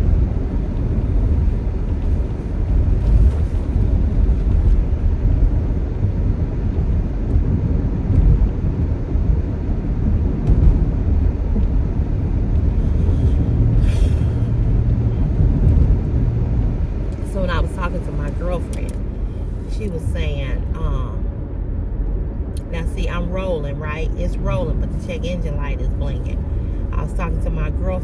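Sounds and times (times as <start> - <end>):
rough car engine rumble: 0.0 - 28.0.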